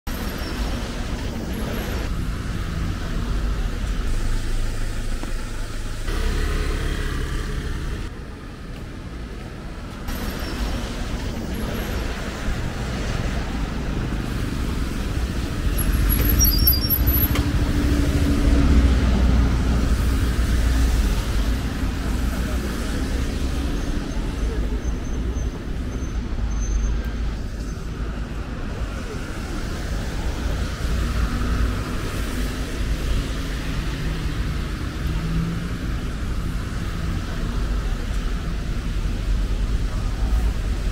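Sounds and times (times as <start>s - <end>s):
cars and buses passing: 0.1s - 40.9s.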